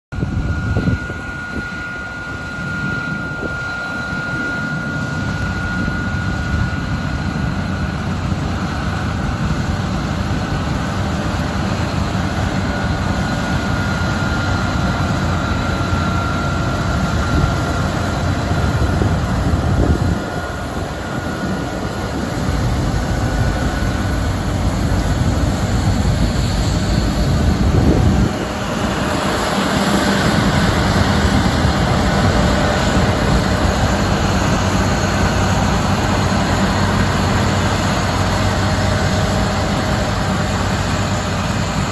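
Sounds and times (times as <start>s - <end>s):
diesel engines and threshing machinery: 0.1s - 41.9s
faint high whine: 0.2s - 41.9s.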